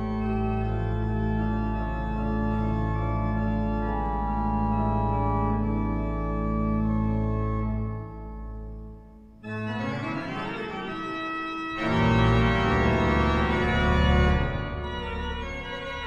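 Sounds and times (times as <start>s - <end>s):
slow organ chords: 0.0s - 16.0s.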